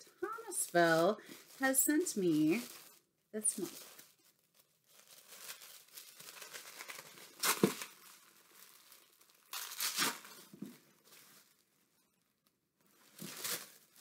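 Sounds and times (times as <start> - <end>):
paper wrapping crinkling and tearing: 0.2 - 11.7, 13.0 - 14.0.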